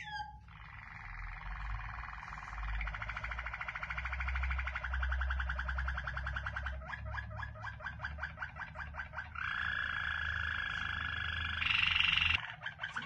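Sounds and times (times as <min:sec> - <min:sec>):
canary singing in rolling trills: 0:00.0 - 0:13.0.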